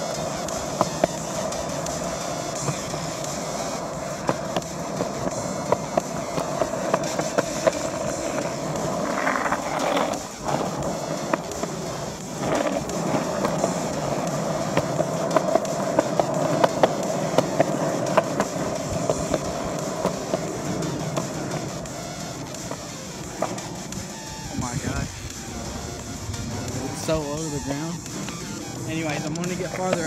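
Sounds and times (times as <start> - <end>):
skateboard wheels rumbling on concrete: 0.0 - 30.0
wheels clicking over slab joints: 0.0 - 30.0.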